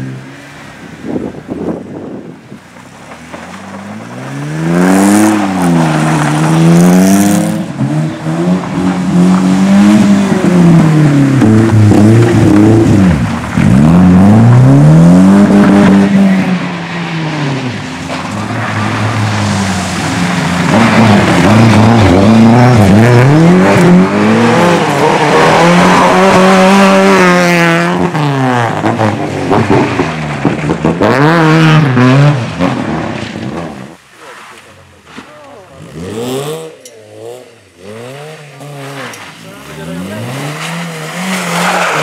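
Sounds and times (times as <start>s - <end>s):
rally car engines revving: 0.0s - 42.0s.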